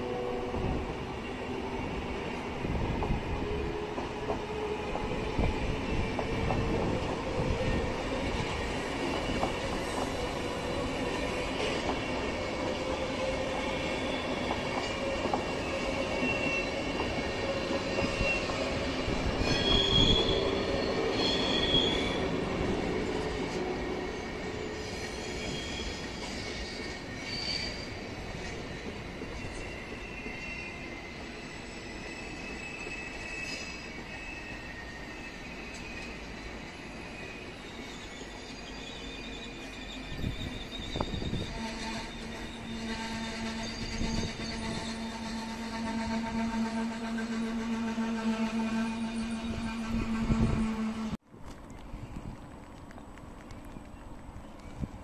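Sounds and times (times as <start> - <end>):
train wheels squealing: 0.0 - 51.2
low train rumble: 0.0 - 55.0.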